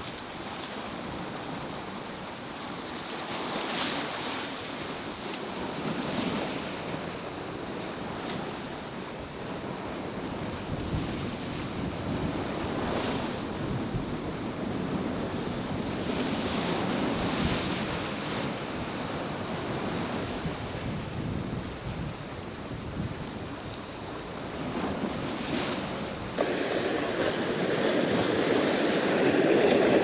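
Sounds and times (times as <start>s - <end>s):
sea surf washing in: 0.0s - 30.0s
wind buffeting microphone: 0.0s - 30.0s.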